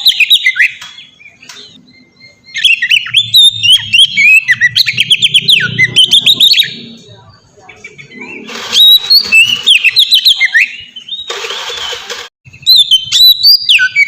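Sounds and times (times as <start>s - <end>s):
bird singing whistled notes: 0.0s - 6.8s, 8.2s - 11.3s, 12.5s - 14.0s.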